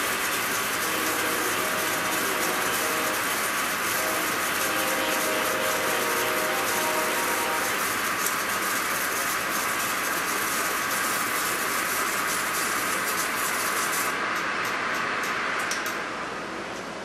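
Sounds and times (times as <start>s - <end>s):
lathe machining hiss: 0.0s - 16.3s.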